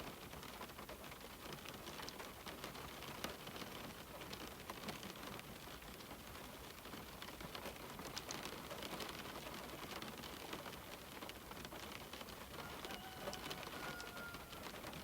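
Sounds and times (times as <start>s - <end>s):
raindrops tapping on glass: 0.0s - 15.0s.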